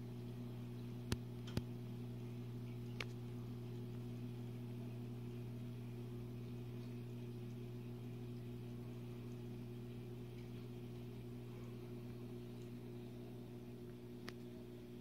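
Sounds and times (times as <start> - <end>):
aquarium pump hum: 0.0 - 15.0.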